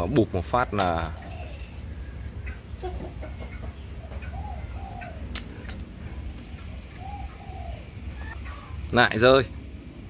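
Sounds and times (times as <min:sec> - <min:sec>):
low steady rumble: 0:00.0 - 0:10.0
soft bird calls: 0:00.2 - 0:09.6.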